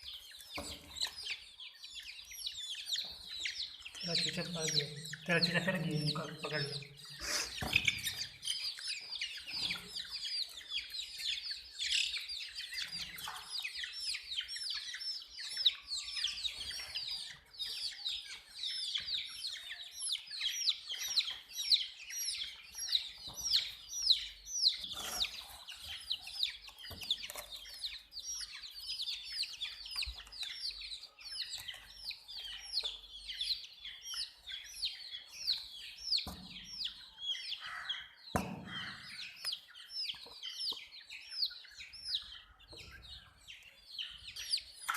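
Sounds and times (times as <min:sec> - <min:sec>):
baby chicks peeping: 0:00.0 - 0:44.9.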